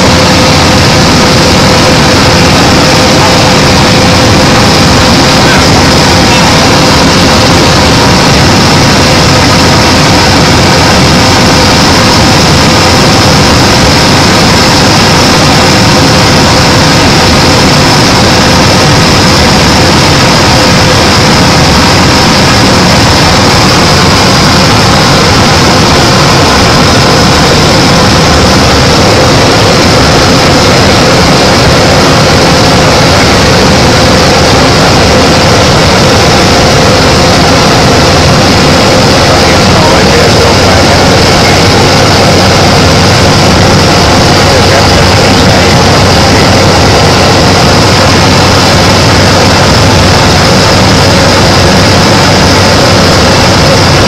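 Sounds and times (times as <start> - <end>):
constant high whine: 0.0 - 54.0
propeller aircraft engine drone: 0.0 - 54.0.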